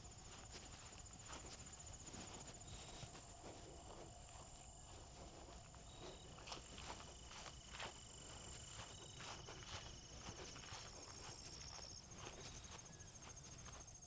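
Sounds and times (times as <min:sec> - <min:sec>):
footsteps on trail: 0:00.0 - 0:14.0
high insect trill: 0:00.0 - 0:14.0.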